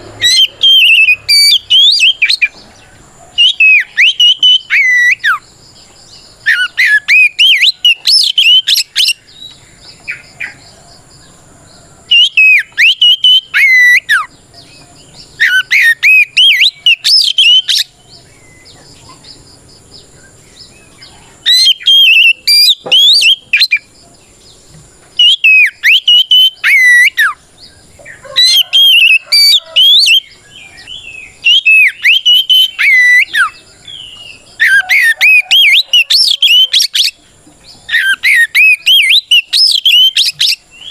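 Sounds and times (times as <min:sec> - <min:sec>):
songbird whistled song: 0:00.0 - 0:40.9.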